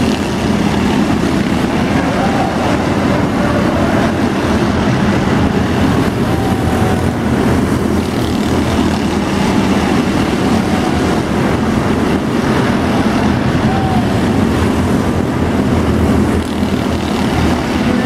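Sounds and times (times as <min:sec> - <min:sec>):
model race car engines: 0:00.0 - 0:18.0.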